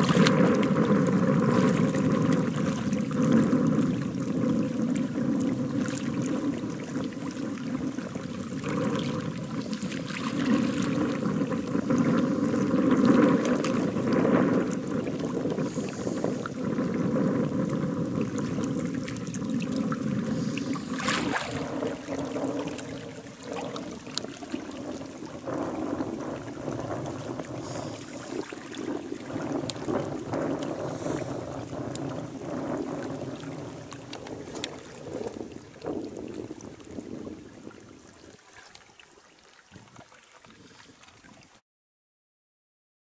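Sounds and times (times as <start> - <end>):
person wading through river water: 0.0 - 41.6.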